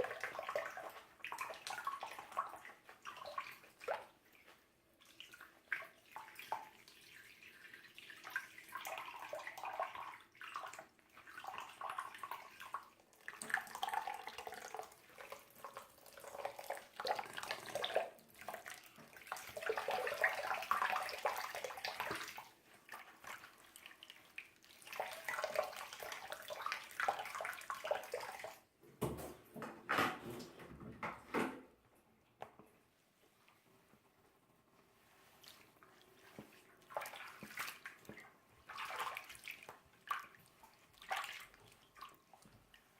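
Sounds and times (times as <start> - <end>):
water splashing and squishing: 0.0 - 28.7, 34.8 - 42.9.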